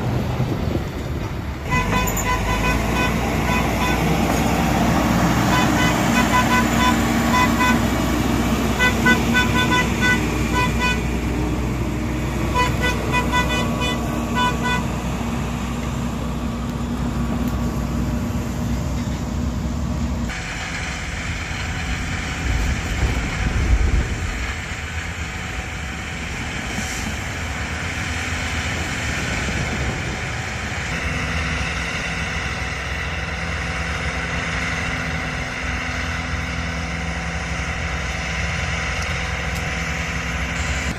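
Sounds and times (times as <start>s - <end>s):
heavy machinery running: 0.0s - 40.9s
heavy low rumble: 3.2s - 40.9s.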